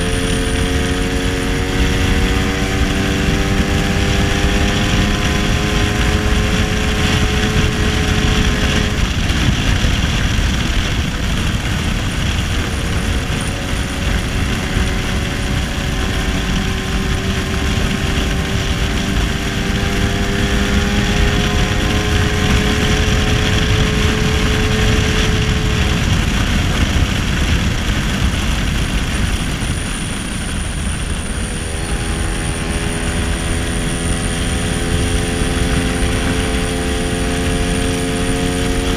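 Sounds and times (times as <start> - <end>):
scooter engine running: 0.0 - 38.9
wind and road noise: 0.0 - 38.9.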